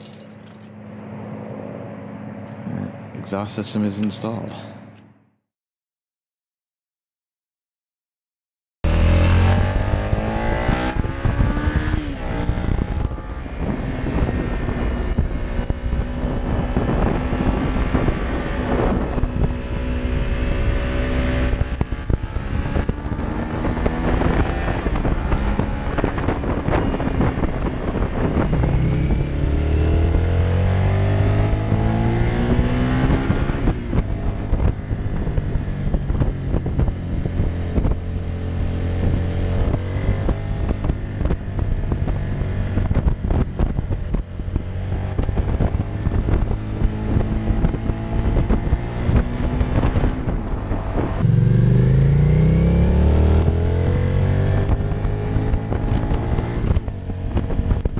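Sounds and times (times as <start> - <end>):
motorcycle engine revving: 8.9 - 57.9.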